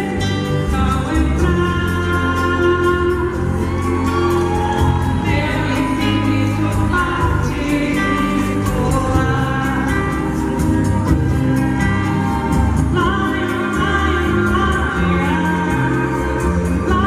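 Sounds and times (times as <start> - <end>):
live band music with singing: 0.0 - 17.0.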